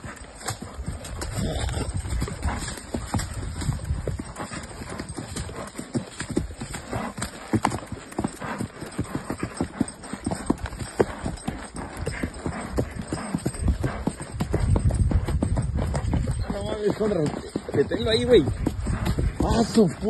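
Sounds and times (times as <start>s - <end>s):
horse hooves on dirt: 0.0s - 20.0s.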